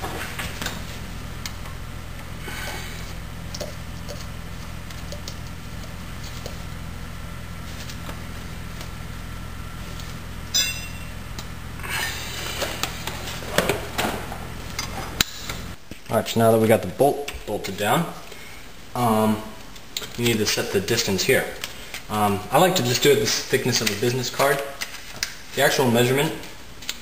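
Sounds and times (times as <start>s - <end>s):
steady low hum: 0.0s - 26.8s.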